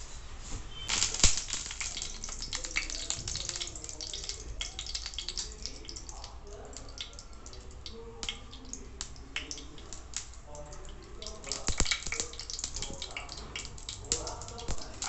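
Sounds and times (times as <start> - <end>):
mustard seeds popping in hot oil: 0.9 - 15.0.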